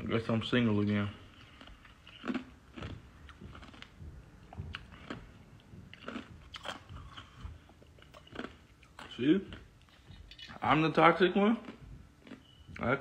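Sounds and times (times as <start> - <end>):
chewing and mouth clicks: 0.8 - 13.0.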